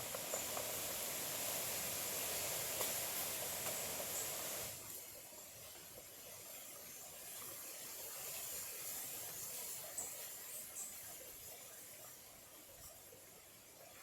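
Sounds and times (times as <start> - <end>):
stream running: 0.0 - 14.0.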